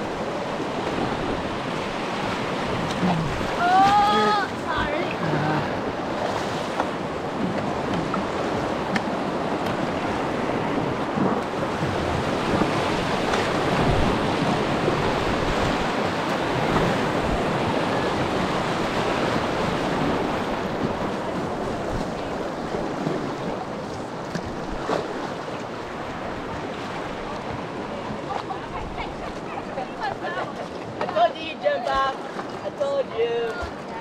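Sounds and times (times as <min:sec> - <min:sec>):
wind on microphone: 0:00.0 - 0:30.2
creek water rushing: 0:00.0 - 0:34.0.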